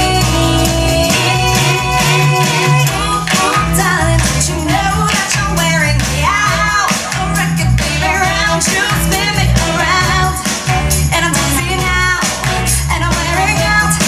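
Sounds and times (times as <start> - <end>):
pop song with vocals: 0.0 - 14.0.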